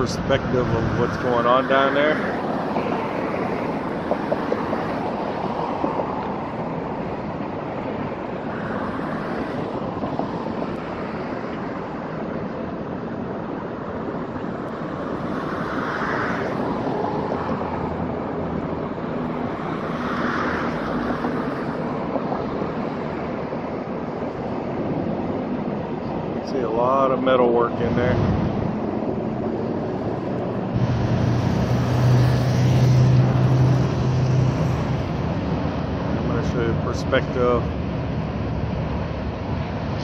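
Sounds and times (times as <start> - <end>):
road traffic noise: 0.0 - 40.0
vehicles passing: 0.0 - 40.0
wind buffeting microphone: 0.0 - 40.0.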